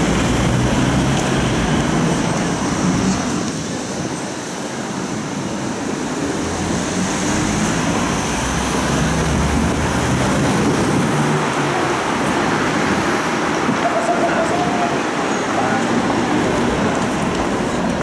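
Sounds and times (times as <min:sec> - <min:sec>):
cars passing: 0:00.0 - 0:18.0
trams running: 0:00.0 - 0:18.0.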